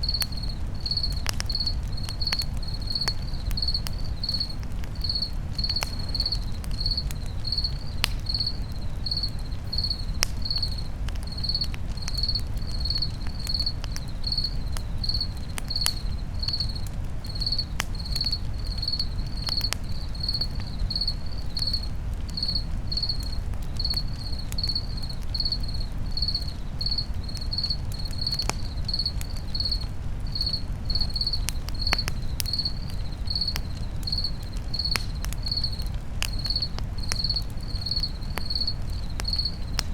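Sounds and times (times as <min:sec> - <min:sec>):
campfire crackling and popping: 0:00.0 - 0:39.9
cricket chirping: 0:00.0 - 0:39.9.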